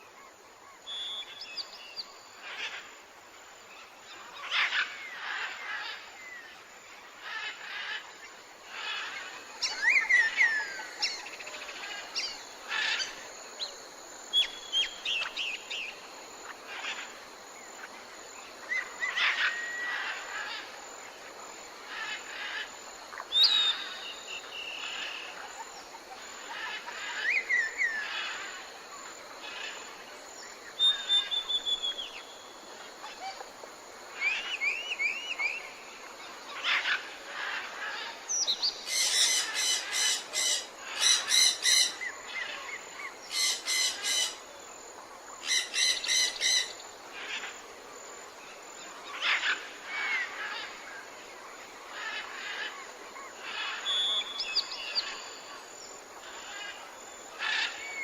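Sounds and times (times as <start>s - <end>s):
songbirds singing: 0.0s - 2.9s, 3.8s - 20.8s, 21.8s - 58.0s.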